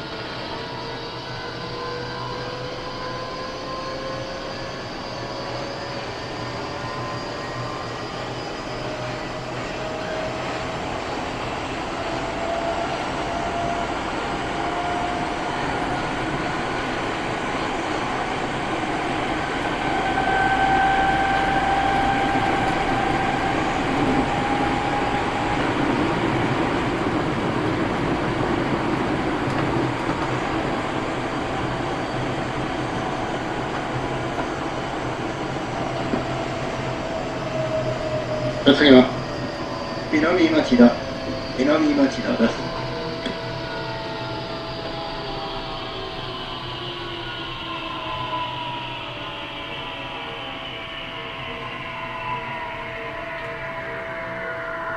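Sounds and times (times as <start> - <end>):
rumble of wheels on rail: 0.0 - 54.9
train motor whine rising in pitch: 0.0 - 54.9.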